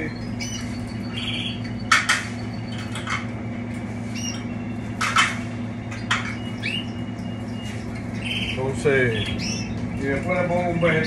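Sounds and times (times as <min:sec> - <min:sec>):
canaries squawking and chirping: 0:00.0 - 0:11.0
steady low hum: 0:00.0 - 0:11.0.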